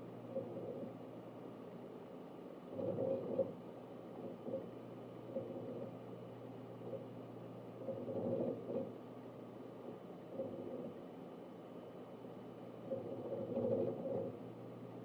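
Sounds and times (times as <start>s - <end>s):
hard drive seek chatter: 0.0s - 1.7s, 2.6s - 15.0s
fan hum: 0.0s - 15.0s.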